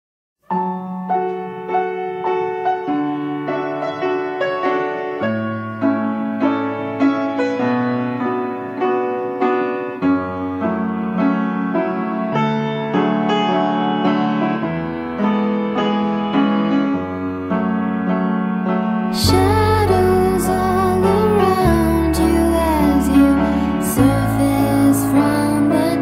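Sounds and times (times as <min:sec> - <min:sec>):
solo piano ballad: 0:00.4 - 0:26.0.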